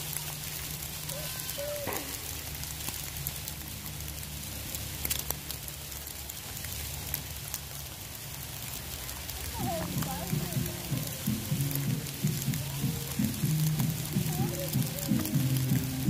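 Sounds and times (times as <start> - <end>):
rain hissing: 0.0 - 16.0
raindrop ticks: 0.0 - 16.0.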